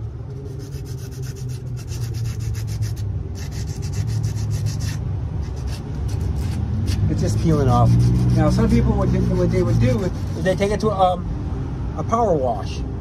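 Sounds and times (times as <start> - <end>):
sandpaper rubbing strokes: 0.4 - 10.9.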